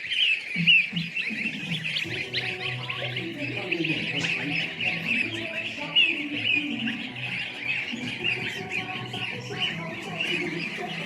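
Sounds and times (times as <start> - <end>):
background music: 0.0 - 11.0
goslings peeping: 0.0 - 11.0.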